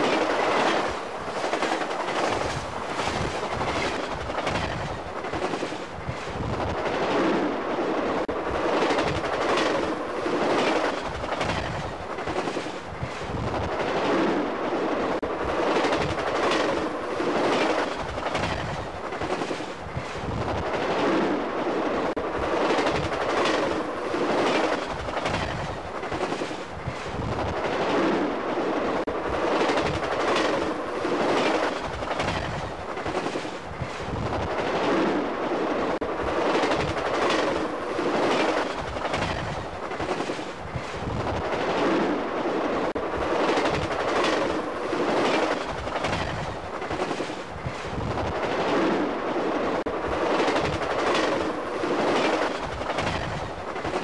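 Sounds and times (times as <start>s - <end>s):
train wheels clattering over rail joints: 0.0s - 7.4s, 8.4s - 14.3s, 15.4s - 21.3s, 22.4s - 28.2s, 29.0s - 34.9s, 36.2s - 42.1s, 42.9s - 49.0s, 49.8s - 54.0s
rushing roar of passing train: 0.0s - 54.0s.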